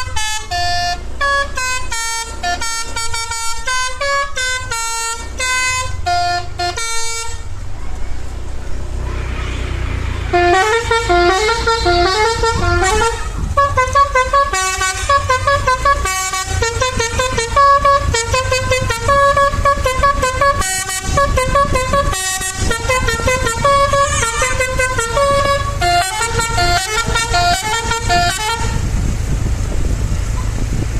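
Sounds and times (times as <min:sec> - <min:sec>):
bus air horn playing a tune: 0:00.0 - 0:07.6, 0:09.1 - 0:29.0
low engine rumble: 0:00.0 - 0:30.9.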